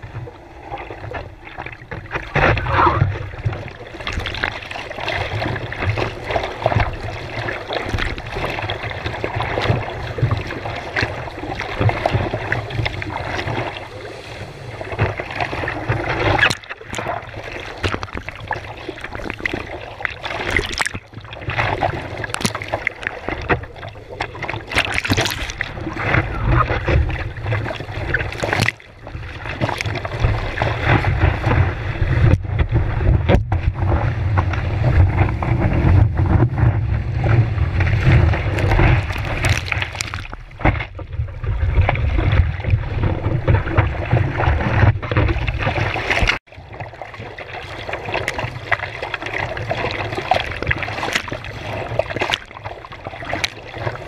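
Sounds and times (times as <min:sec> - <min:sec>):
sea water rushing and splashing: 0:00.0 - 0:54.0.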